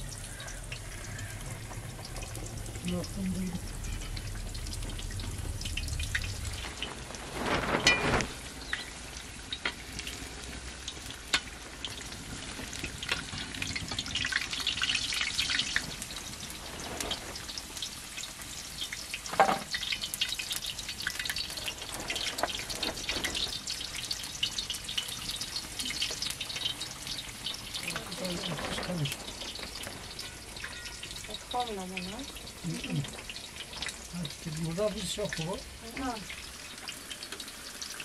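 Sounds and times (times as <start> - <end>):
potato slices frying in oil: 0.0 - 38.0.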